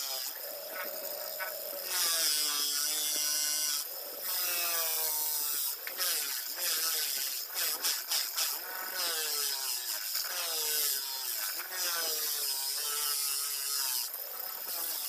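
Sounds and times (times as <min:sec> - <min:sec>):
buffing wheel rubbing hiss: 0:00.0 - 0:15.0.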